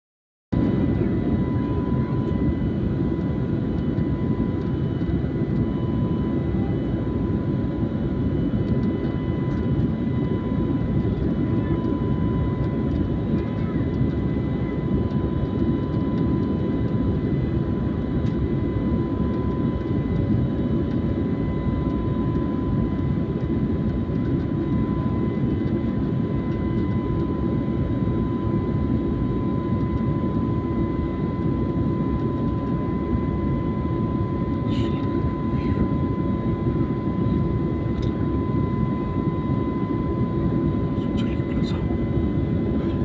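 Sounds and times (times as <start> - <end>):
jet engines running steadily: 0.6 - 43.0.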